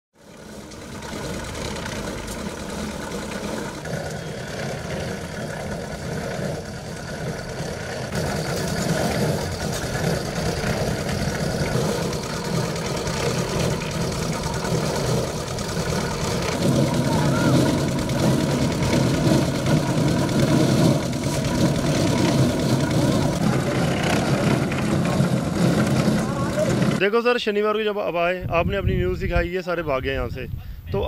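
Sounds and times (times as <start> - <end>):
concrete mixer engine humming: 0.2 - 27.6.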